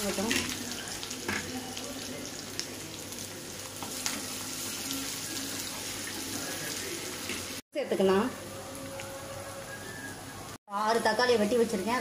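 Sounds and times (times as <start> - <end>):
onions sizzling in hot oil: 0.0 - 10.2.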